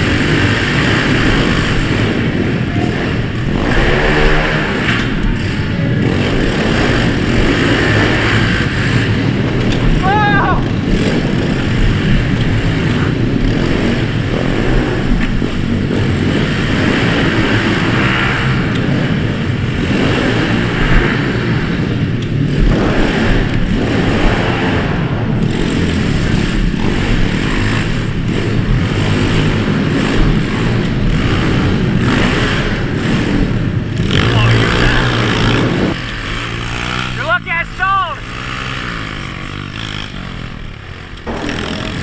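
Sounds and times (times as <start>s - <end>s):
pit bike engines racing: 0.0s - 42.0s.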